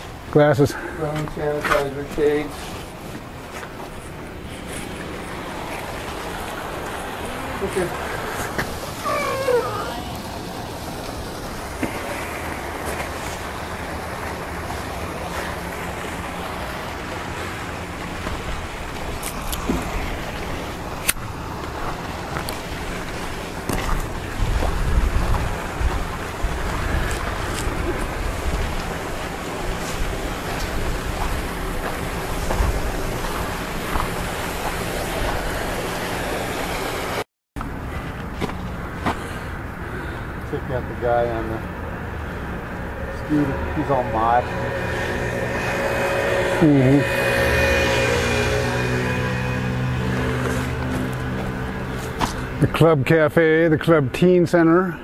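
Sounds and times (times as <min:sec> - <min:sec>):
wind on microphone: 0:02.9 - 0:37.2, 0:41.4 - 0:52.7.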